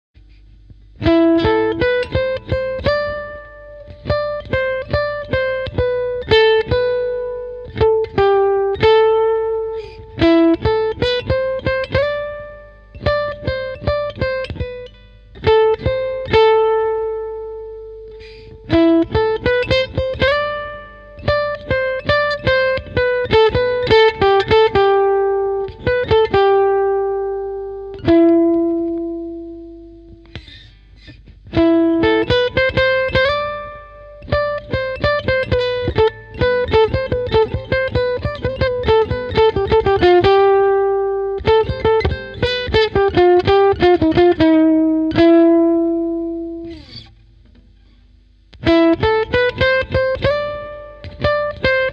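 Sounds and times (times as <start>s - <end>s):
solo guitar riff: 0.2s - 51.9s.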